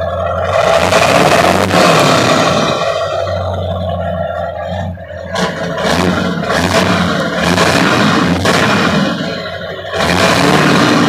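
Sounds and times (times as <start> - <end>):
diesel engine exhaust running: 0.0 - 11.0.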